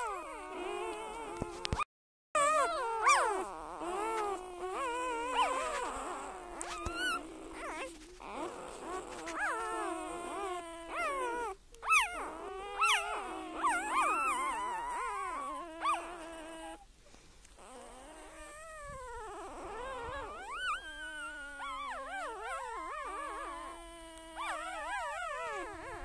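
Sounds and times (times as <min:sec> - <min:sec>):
pet whining: 0:00.0 - 0:26.0.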